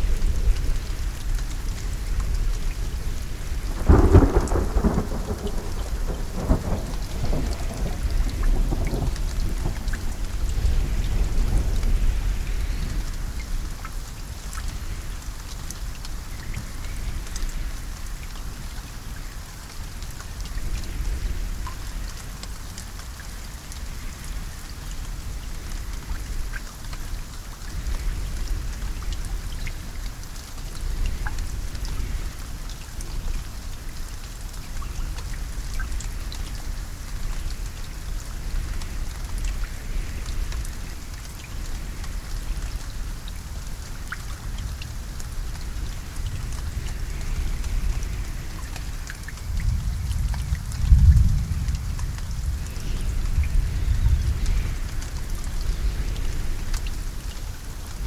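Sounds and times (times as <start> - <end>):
rain falling: 0.0 - 58.0
raindrop ticks: 0.0 - 58.0.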